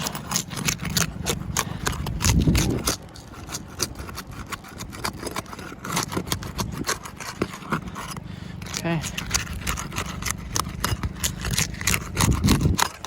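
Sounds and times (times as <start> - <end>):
roof shingles being pried loose: 0.0 - 13.0.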